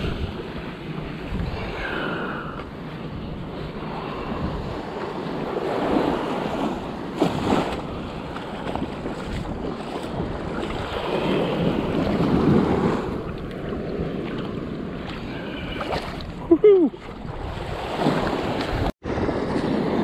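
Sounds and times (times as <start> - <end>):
small surf waves washing: 0.0 - 20.0
wind buffeting microphone: 0.0 - 20.0.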